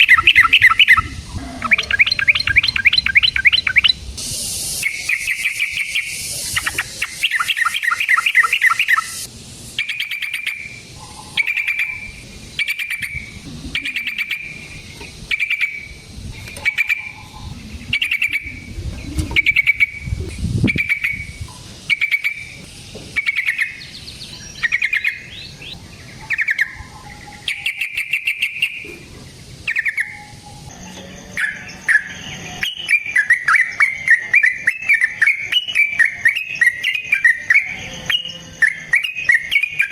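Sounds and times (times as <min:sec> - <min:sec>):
bird singing and chattering: 0:00.0 - 0:39.9.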